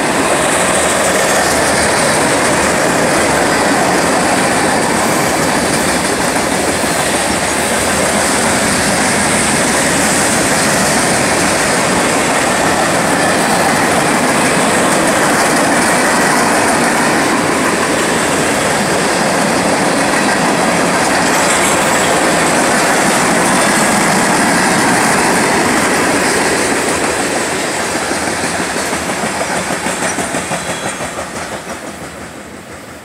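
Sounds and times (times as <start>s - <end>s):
train wheel and rail noise: 0.0s - 33.0s
wheels clacking over rail joints: 0.0s - 33.0s.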